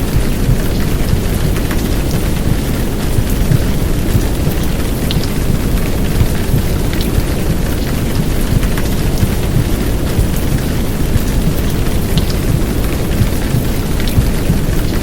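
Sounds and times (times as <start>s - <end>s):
deep low white noise rumble: 0.0s - 15.0s
heavy rain downpour: 0.0s - 15.0s
raindrops ticking: 0.0s - 15.0s.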